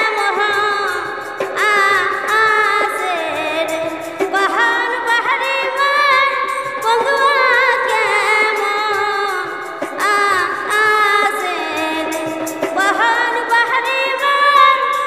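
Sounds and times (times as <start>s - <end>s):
woman singing folk song: 0.0s - 15.0s.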